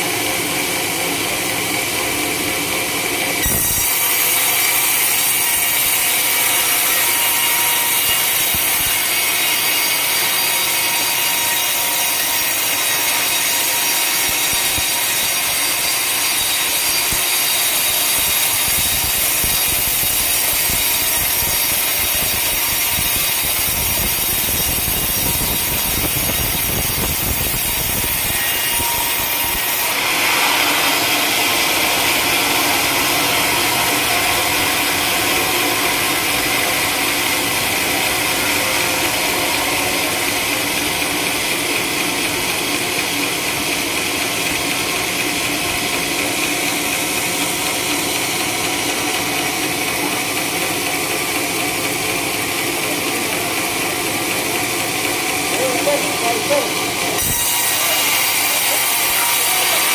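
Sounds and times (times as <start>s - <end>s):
sawmill blade cutting log: 0.0s - 59.9s.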